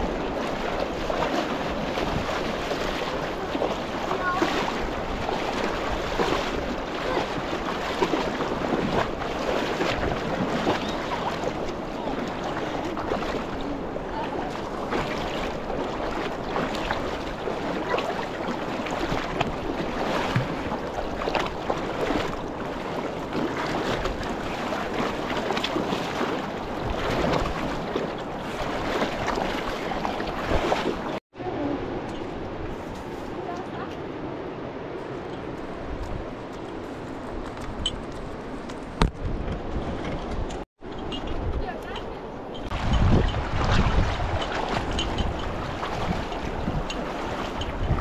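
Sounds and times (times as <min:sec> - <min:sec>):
rushing river water: 0:00.0 - 0:48.0.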